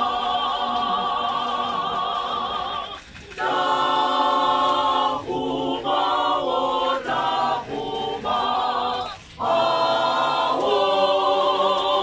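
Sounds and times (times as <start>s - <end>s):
choir singing unaccompanied: 0.0s - 12.0s.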